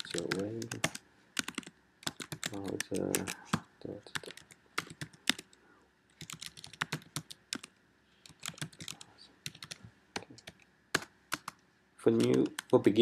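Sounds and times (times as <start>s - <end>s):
keyboard typing: 0.0s - 13.0s.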